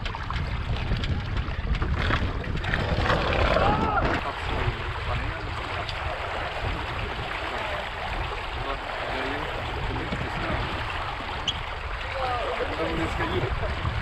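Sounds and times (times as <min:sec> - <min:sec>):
water rushing along hulls: 0:00.0 - 0:14.0
wind on microphone: 0:00.0 - 0:14.0.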